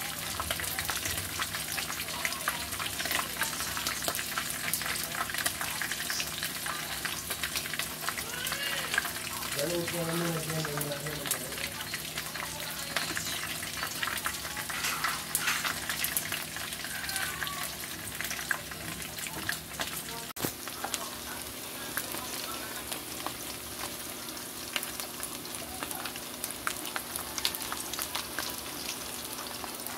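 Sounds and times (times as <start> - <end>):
chicken sizzling in hot oil: 0.0 - 29.9.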